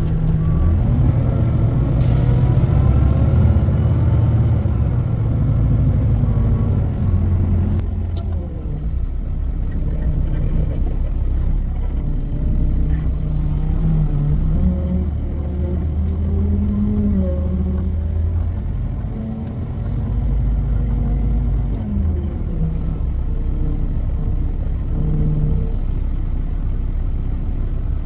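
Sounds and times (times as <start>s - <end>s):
diesel truck engine running: 0.0s - 28.0s.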